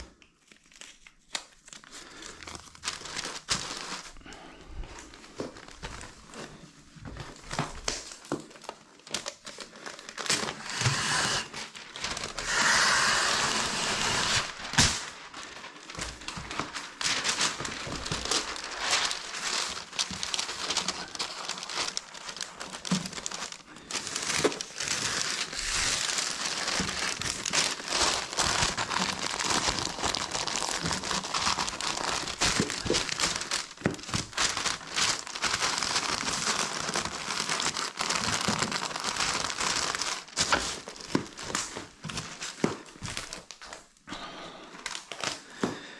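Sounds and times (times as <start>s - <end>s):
sheeting crinkling and crumpling: 0.0s - 45.9s.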